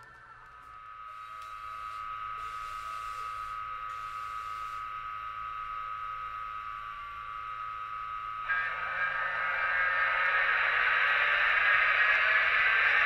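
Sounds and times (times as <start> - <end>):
model train humming: 0.7 - 13.0.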